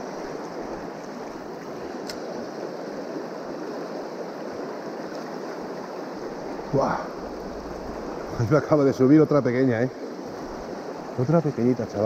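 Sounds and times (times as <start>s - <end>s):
water rushing over stones: 0.0s - 12.0s.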